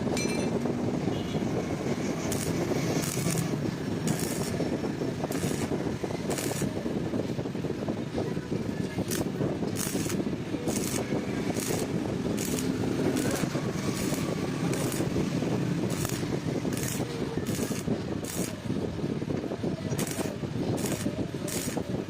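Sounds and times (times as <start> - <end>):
steady mechanical running noise: 0.0 - 22.0.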